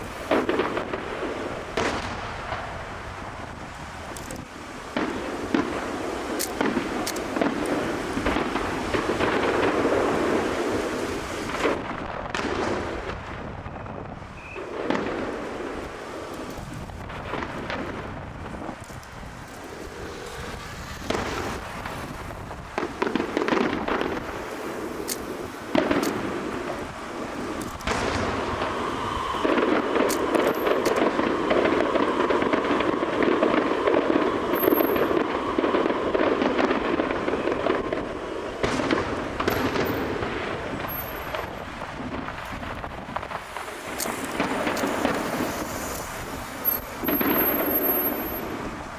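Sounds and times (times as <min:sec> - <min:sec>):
fireworks bangs: 0:00.0 - 0:48.9
fireworks crackling: 0:00.0 - 0:48.9.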